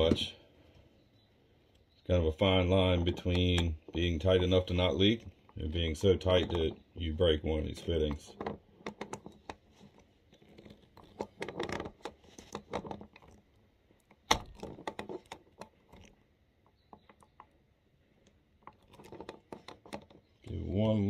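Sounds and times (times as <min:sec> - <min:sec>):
plastic parts clicking and scraping: 0:02.6 - 0:21.0.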